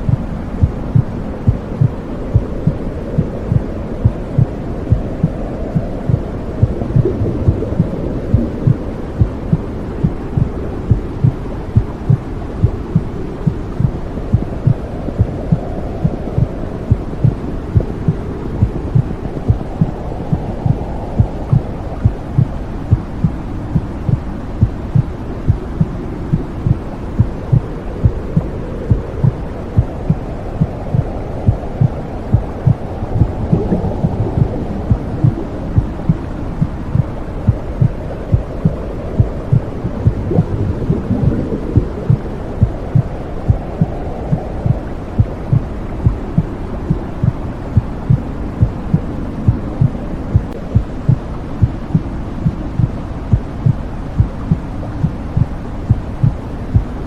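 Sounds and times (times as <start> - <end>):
heartbeat thumping: 0.0 - 57.0
muffled whooshing rumble: 0.0 - 57.0.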